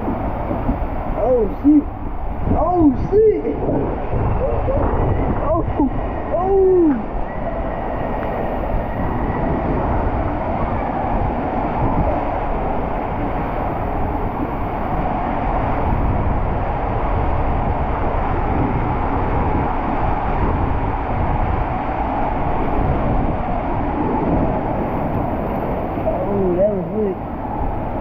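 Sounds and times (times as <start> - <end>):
water rushing and rumbling: 0.0 - 28.0.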